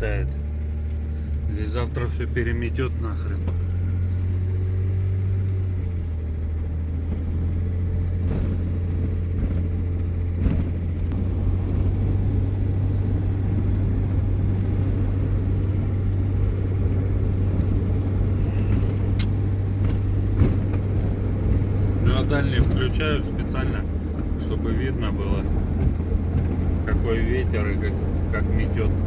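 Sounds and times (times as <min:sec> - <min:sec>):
vehicle engine and tyres droning: 0:00.0 - 0:29.0.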